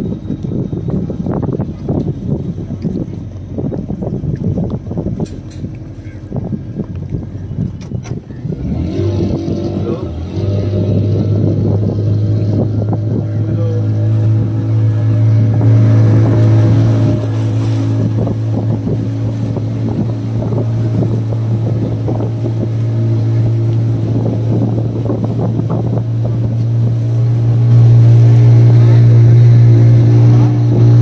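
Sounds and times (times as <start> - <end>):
motorboat engine humming: 0.0 - 31.0.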